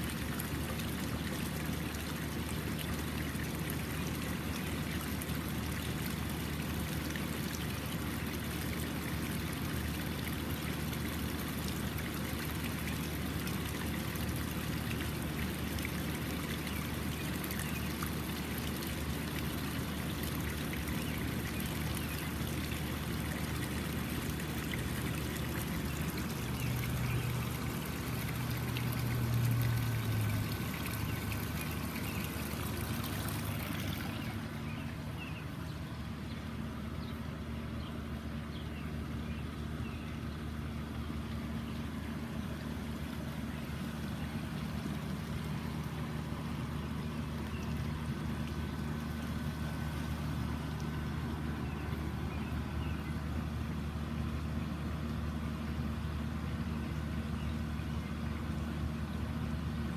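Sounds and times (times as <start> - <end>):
water splashing into pond: 0.0 - 59.9.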